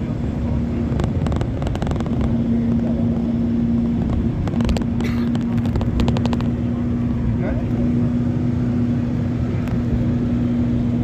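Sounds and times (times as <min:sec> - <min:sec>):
train rumble inside coach: 0:00.0 - 0:11.0.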